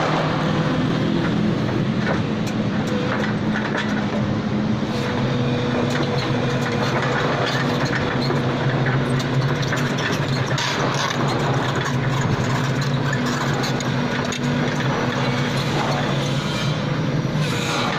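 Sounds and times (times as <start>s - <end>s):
excavator diesel engine running: 0.0s - 17.9s.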